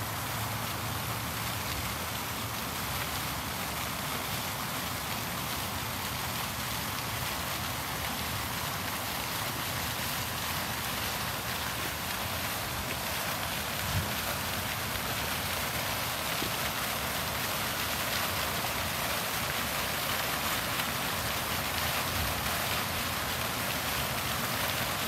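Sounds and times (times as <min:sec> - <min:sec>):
fountain splashing into basin: 0:00.0 - 0:25.0.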